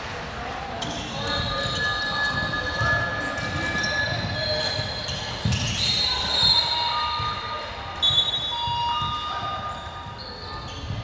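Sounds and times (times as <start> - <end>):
sneakers squeaking on hardwood: 0.8 - 7.4, 8.0 - 11.0.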